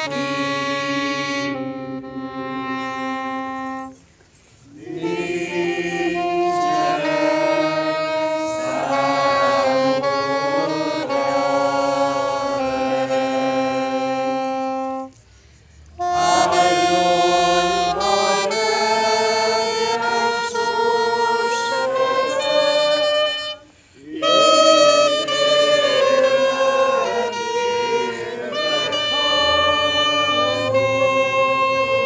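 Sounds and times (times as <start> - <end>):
wind instruments playing solemn anthem: 0.0 - 32.0.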